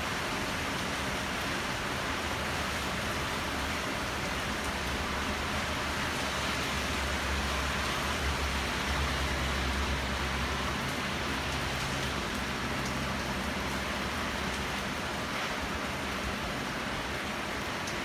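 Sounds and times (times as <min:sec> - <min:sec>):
heavy rain falling: 0:00.0 - 0:18.0
low traffic rumble: 0:00.0 - 0:18.0.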